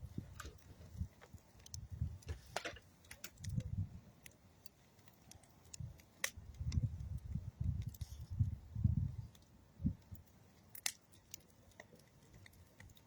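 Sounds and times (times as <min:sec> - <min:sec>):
campfire crackling and popping: 0:00.0 - 0:13.0
low rumbling fire puffs: 0:00.0 - 0:13.0.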